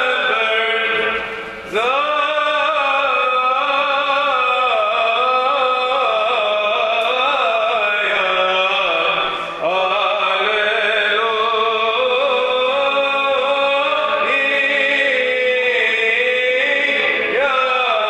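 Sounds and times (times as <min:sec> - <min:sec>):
held vocal drone: 0:00.0 - 0:18.0
man chanting ornamented melody: 0:00.0 - 0:18.0.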